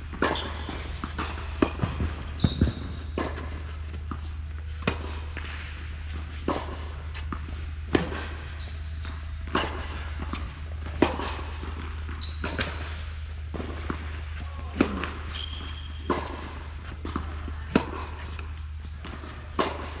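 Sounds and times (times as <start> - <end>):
steady low hum: 0.0 - 20.0
tennis ball struck and bouncing: 0.1 - 20.0.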